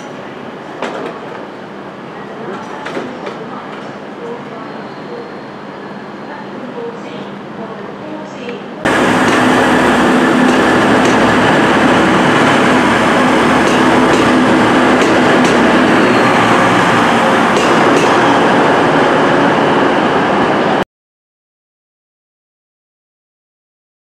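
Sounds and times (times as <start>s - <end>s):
train diesel engines droning: 0.0s - 20.8s.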